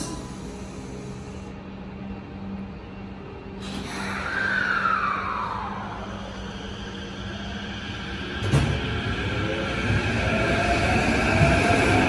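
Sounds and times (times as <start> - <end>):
train electrical hum: 0.0 - 12.0.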